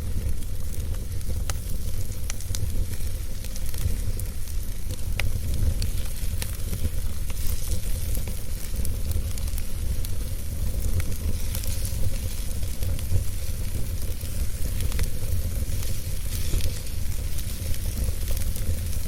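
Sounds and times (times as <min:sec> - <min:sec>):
wood fire burning: 0:00.0 - 0:19.0.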